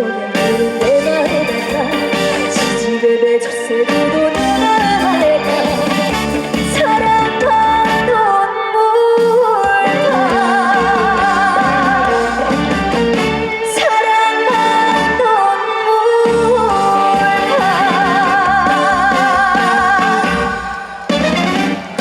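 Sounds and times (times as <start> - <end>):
live band playing: 0.0 - 8.6, 9.2 - 22.0
woman singing: 0.0 - 21.1.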